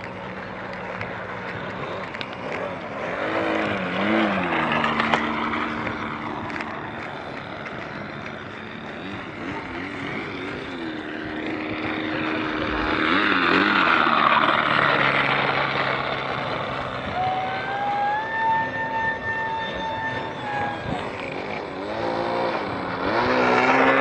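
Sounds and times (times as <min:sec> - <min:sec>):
model plane engine flying by: 0:00.0 - 0:24.0.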